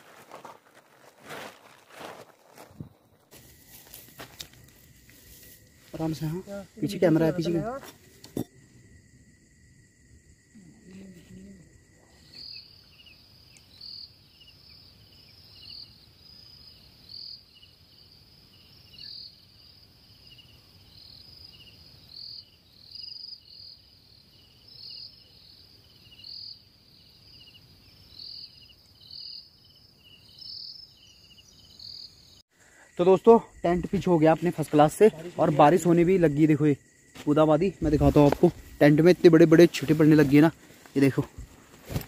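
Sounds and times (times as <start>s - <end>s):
night insects chirping: 0.0s - 42.0s.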